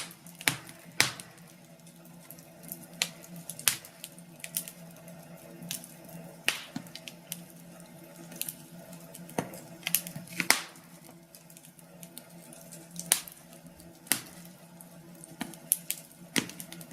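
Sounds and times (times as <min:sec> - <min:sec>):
low steady hum: 0:00.0 - 0:16.9
wood fire crackling: 0:00.0 - 0:16.9.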